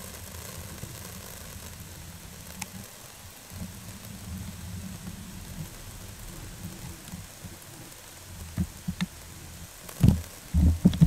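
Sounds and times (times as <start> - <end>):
steady low rumble: 0.0 - 11.0
water spraying from sprinklers: 0.0 - 11.0.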